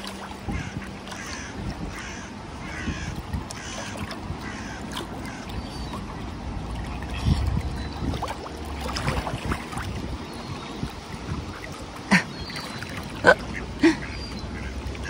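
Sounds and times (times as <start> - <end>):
wind buffeting microphone: 0.0 - 12.4
water lapping against rocks: 0.0 - 15.0.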